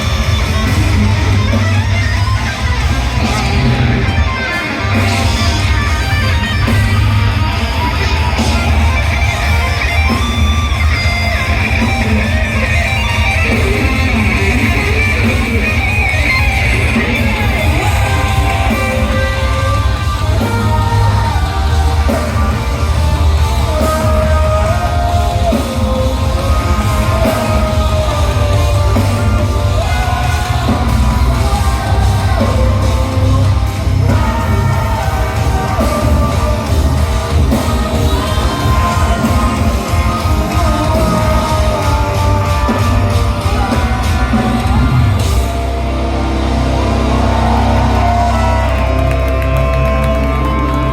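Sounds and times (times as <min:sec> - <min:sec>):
live rock band playing: 0:00.0 - 0:50.9
stepping lead melody: 0:00.0 - 0:50.9.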